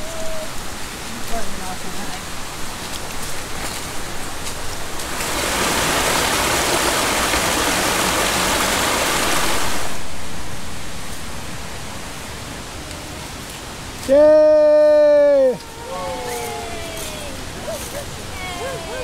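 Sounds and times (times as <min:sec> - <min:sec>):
water rushing over cascade: 0:00.0 - 0:19.0.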